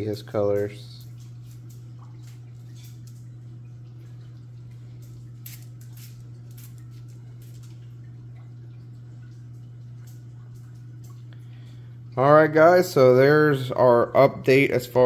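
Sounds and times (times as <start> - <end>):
water dripping and ticking: 0.0 - 13.0
aquarium pumps humming: 0.0 - 15.0.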